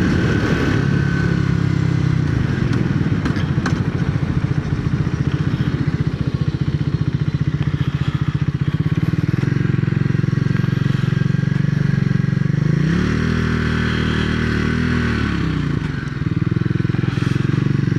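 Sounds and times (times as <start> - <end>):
motorcycle engine pulsing: 0.0 - 17.9.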